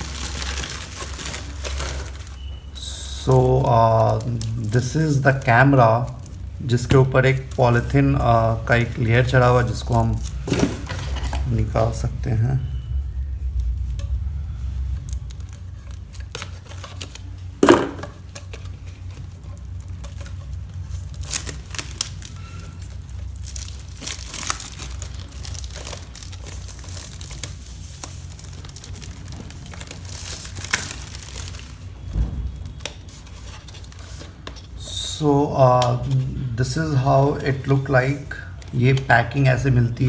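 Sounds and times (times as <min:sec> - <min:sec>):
plastic wrapping crinkling: 0:00.0 - 0:40.0
plastic wrapping ripping: 0:00.0 - 0:40.0.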